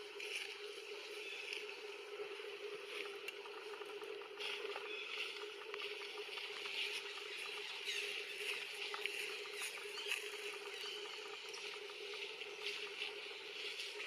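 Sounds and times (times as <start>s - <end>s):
constant low drone: 0.0s - 14.0s.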